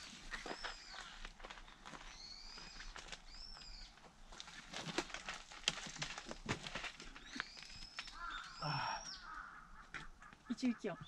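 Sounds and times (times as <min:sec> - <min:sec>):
climbing shoes and hands on rock: 0:00.0 - 0:10.4.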